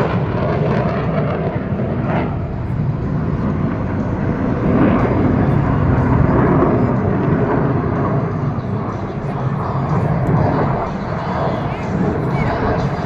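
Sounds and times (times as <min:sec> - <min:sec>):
fighter jets flying past: 0:00.0 - 0:13.0.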